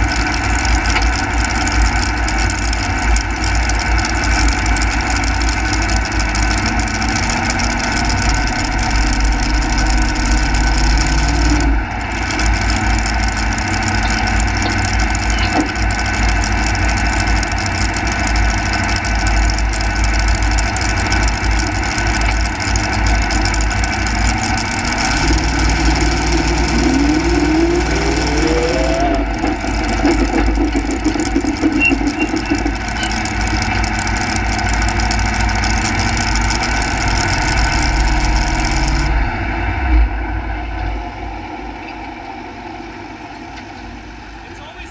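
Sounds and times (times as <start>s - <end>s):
rising whine: 0.0s - 44.9s
tractor engine idling: 0.0s - 44.9s.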